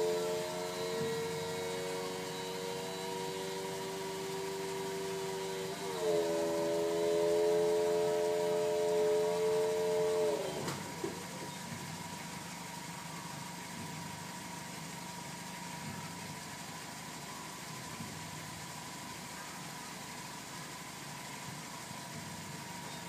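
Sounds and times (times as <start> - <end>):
car engine idling: 0.0 - 23.0
thin steady high tone: 0.0 - 23.0.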